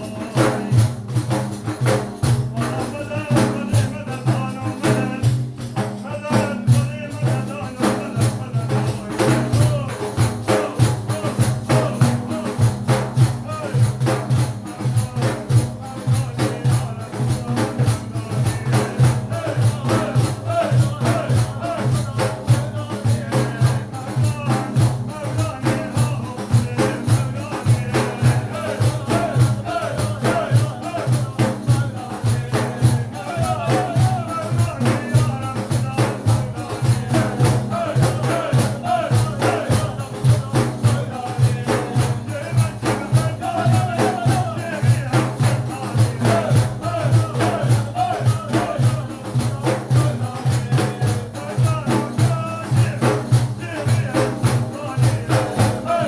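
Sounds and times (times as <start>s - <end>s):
devotional praise singing: 0.0s - 56.0s
jingling hand percussion: 0.0s - 56.0s.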